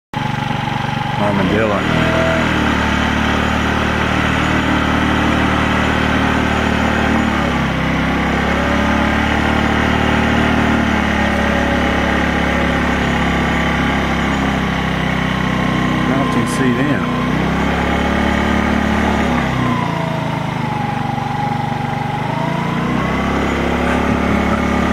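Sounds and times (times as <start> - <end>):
scooter engine idling: 0.2 - 24.9.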